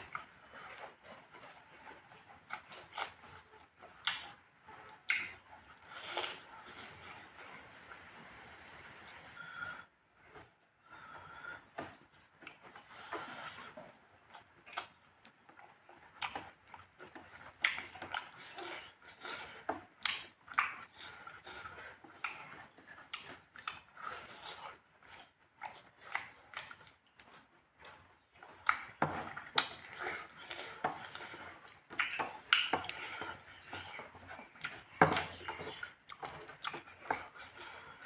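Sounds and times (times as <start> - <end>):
person chewing and lip-smacking: 0.0 - 7.6, 11.8 - 38.0.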